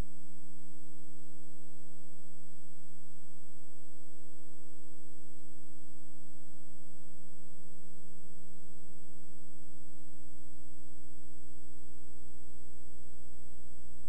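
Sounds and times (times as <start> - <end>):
electrical hum with hiss: 0.0 - 14.0.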